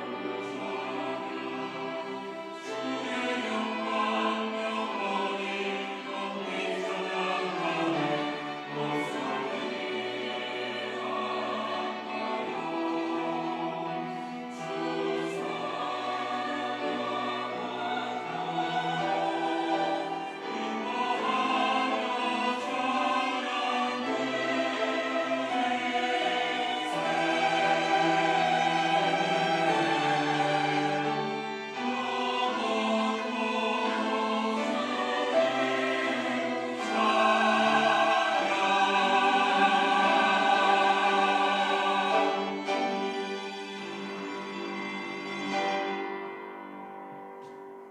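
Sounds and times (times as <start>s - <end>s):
choir singing: 0.0s - 47.2s.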